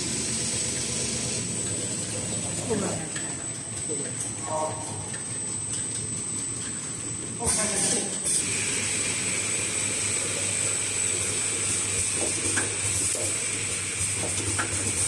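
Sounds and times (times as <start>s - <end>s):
machinery high whine: 0.0s - 15.0s.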